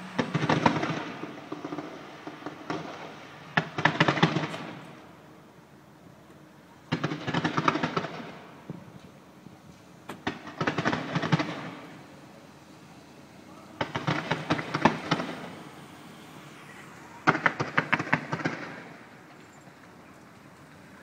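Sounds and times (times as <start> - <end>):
fireworks cracks and bangs: 0.0 - 5.6, 6.3 - 20.9.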